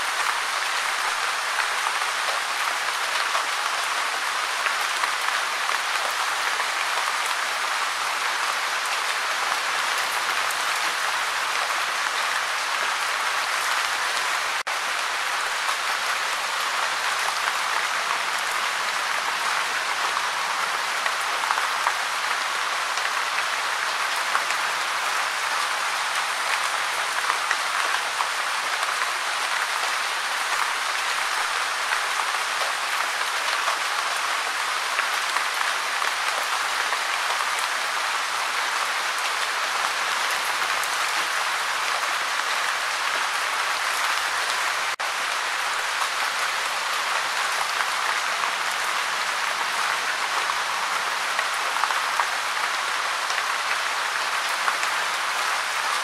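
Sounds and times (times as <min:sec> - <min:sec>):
steady gentle rain: 0:00.0 - 0:56.0.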